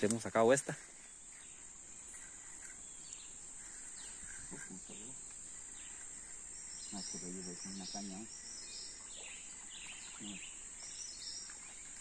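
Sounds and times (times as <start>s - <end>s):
short bird calls: 1.0s - 12.0s.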